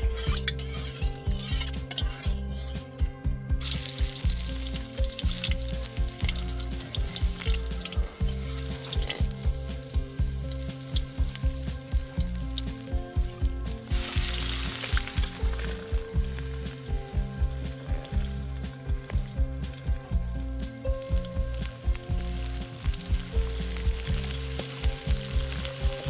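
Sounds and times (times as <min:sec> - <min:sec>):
background music with beat: 0:00.0 - 0:26.0
food sizzling in hot oil: 0:03.6 - 0:19.5, 0:20.6 - 0:26.0.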